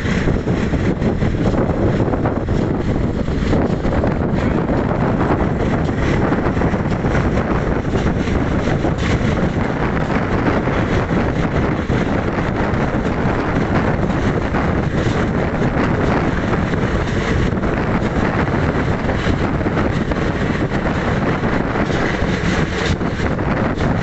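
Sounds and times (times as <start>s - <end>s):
train wheels rumbling on rails: 0.0s - 24.0s
wind buffeting microphone: 0.0s - 24.0s.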